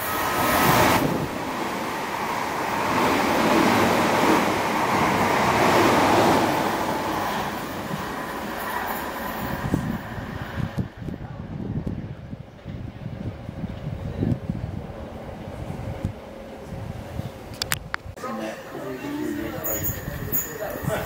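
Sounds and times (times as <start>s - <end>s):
train passing at speed: 0.0s - 17.5s, 18.2s - 21.0s.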